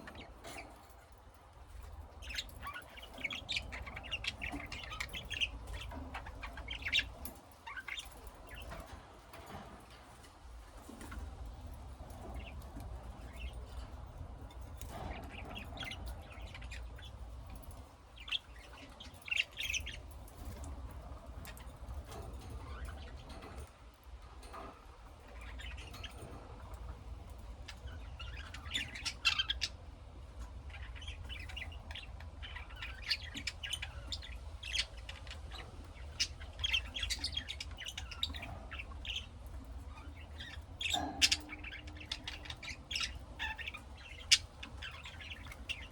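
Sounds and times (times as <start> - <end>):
lovebirds chirping and squawking: 0.0 - 45.9
steady low hum: 0.0 - 45.9.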